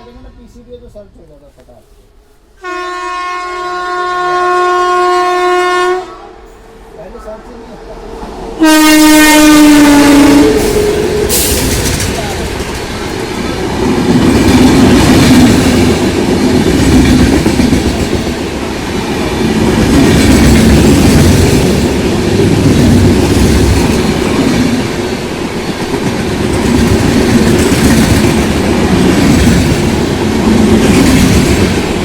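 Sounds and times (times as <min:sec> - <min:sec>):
train wheels rumbling on track: 0:06.0 - 0:32.0.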